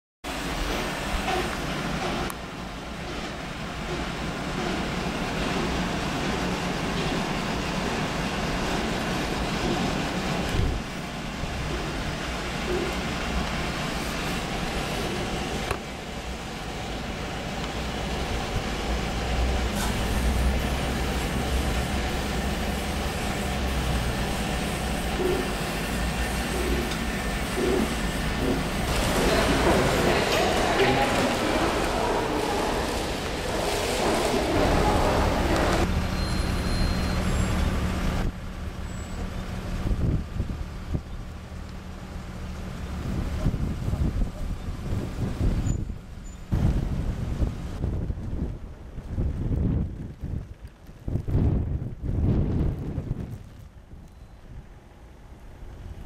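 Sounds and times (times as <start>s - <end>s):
road traffic rumble: 0.3s - 56.0s.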